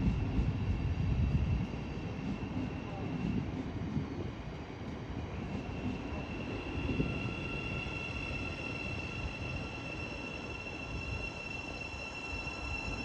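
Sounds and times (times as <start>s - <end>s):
electric train arriving: 0.0s - 13.0s.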